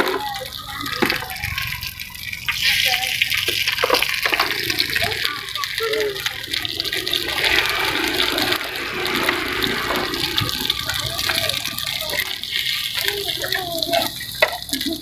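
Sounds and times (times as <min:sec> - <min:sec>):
egg batter sizzling: 0:00.0 - 0:15.0.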